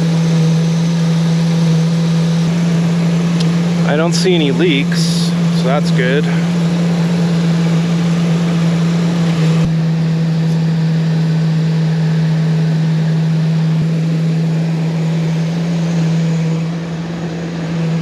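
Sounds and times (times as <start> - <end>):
van engine idling: 0.0 - 18.0.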